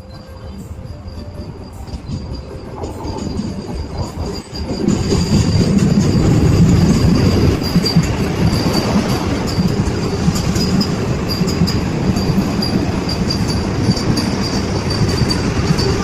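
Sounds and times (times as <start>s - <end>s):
train wheel and rail rumble: 0.0s - 16.0s.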